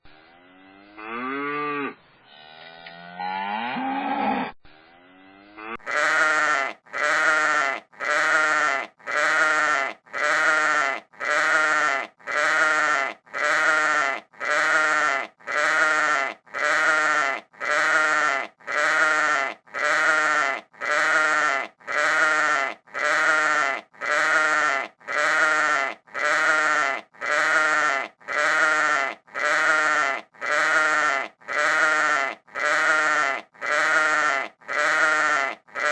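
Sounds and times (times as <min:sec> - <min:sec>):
goat bleating: 0:05.7 - 0:35.9.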